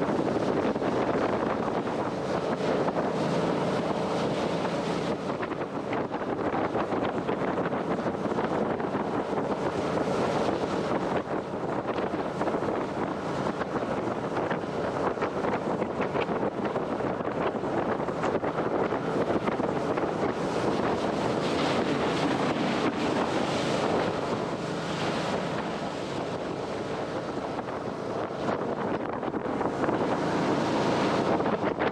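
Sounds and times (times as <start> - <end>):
water rushing from boat hull: 0.0 - 31.9
wind buffeting microphone: 0.0 - 31.9.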